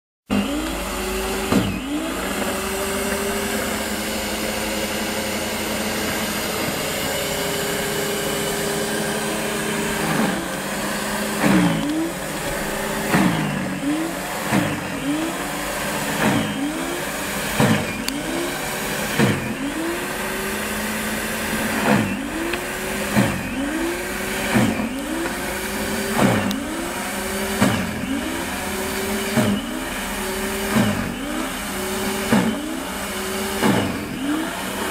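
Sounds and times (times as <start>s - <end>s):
snow thrower motor whining: 0.3s - 34.9s.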